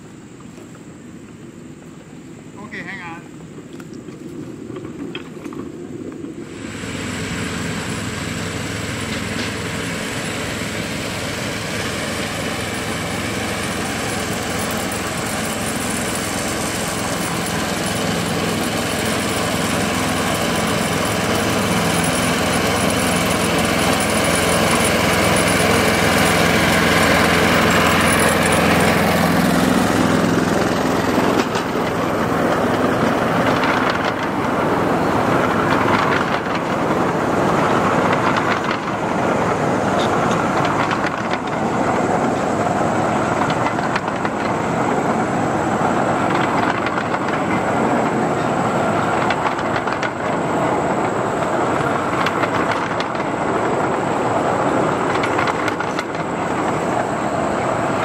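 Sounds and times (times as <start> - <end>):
small locomotive engine running: 4.5 - 58.0
small steel wheels rattling on track: 4.5 - 58.0.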